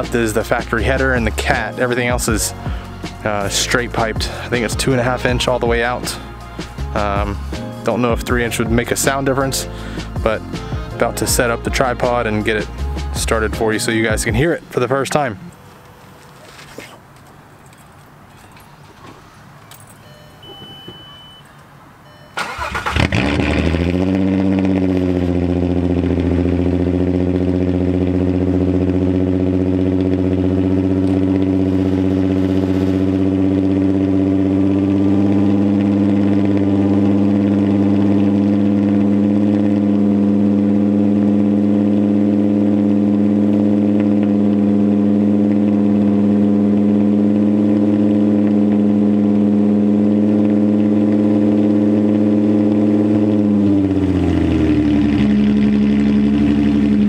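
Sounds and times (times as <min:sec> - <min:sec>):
car engine starting and idling: 0:00.0 - 0:57.0.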